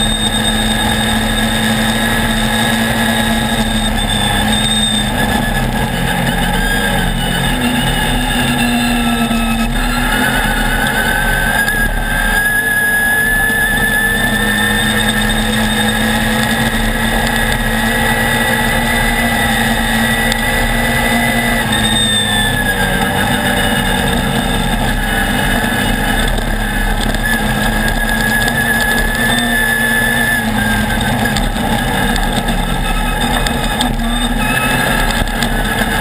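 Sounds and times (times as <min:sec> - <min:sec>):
buggy engine running: 0:00.0 - 0:36.0
wind and road noise: 0:00.0 - 0:36.0.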